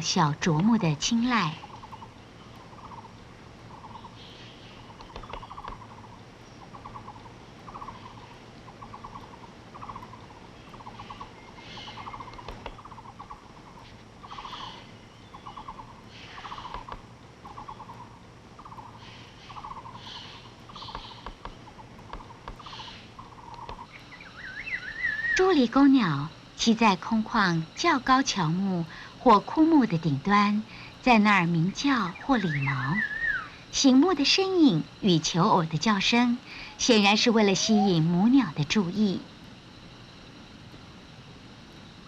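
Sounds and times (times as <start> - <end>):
bird chirps: 0.0 - 39.2
forest background: 0.0 - 42.0.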